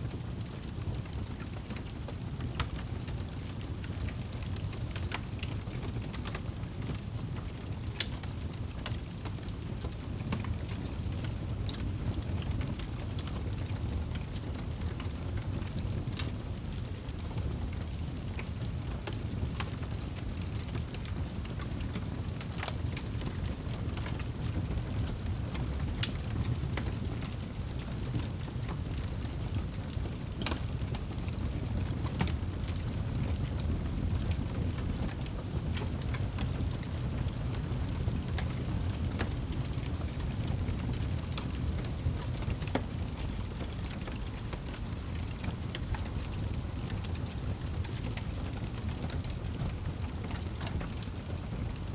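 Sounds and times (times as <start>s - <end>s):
steady rain: 0.0s - 51.9s
wood fire crackling: 0.0s - 51.9s.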